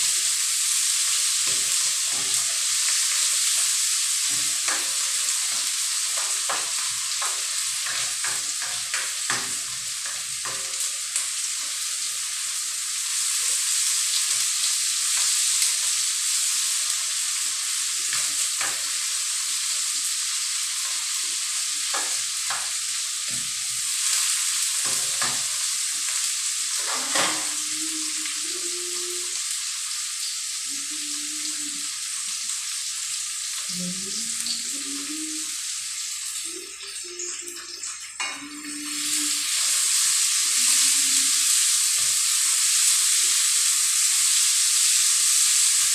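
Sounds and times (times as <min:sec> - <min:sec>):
vegetables sizzling in oil: 0:00.0 - 0:45.9.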